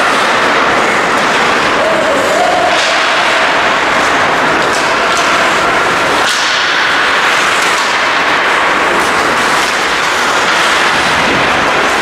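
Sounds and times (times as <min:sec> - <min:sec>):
skate blades scraping ice: 0:00.0 - 0:12.0.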